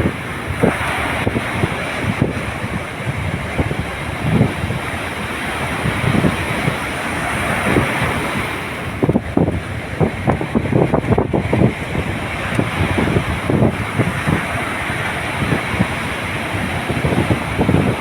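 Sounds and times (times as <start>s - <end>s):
ocean waves surf: 0.0s - 18.0s
wind buffeting microphone: 0.0s - 18.0s.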